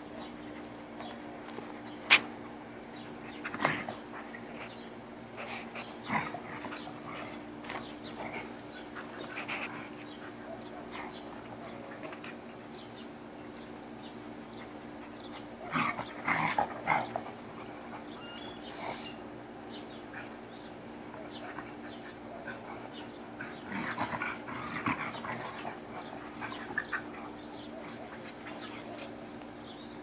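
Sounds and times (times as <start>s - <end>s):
dogs play-fighting and growling: 0.1s - 29.7s.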